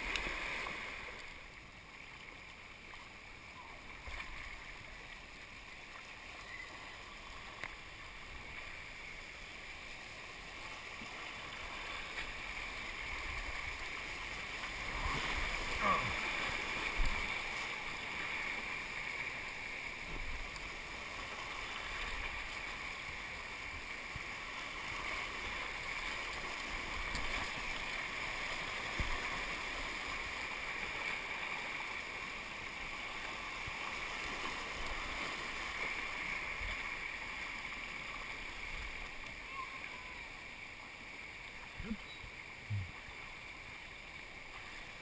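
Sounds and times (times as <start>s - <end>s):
whitewater rapids rushing: 6.2s - 45.0s.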